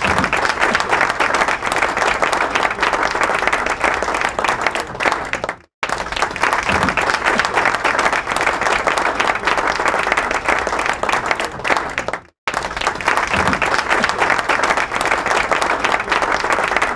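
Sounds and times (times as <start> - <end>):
crowd applauding: 0.0 - 16.9.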